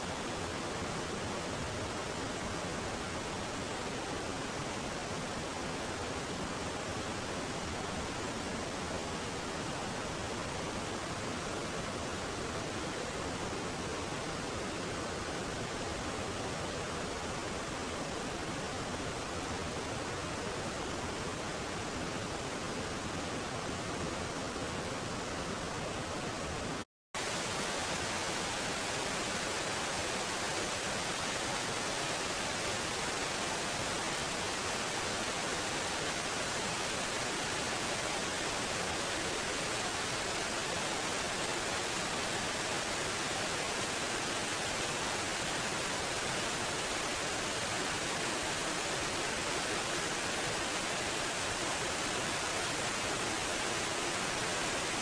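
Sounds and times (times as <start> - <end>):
waterfall pouring over rocks: 0.0 - 55.0.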